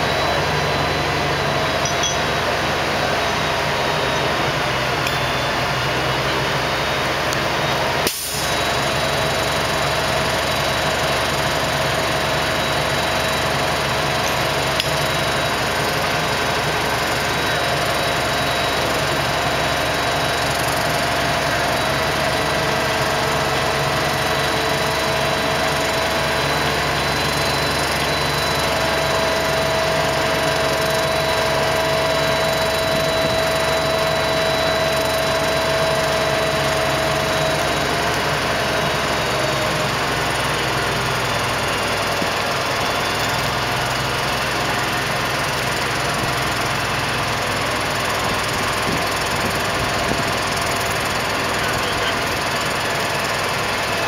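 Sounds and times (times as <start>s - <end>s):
steady high tone: 0.0s - 46.5s
diesel crane engine running: 0.0s - 54.0s.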